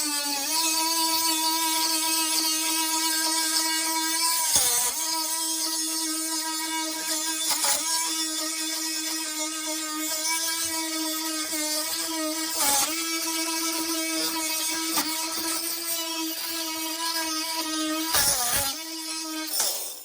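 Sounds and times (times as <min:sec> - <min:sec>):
oscillating multi-tool whine: 0:00.0 - 0:20.0.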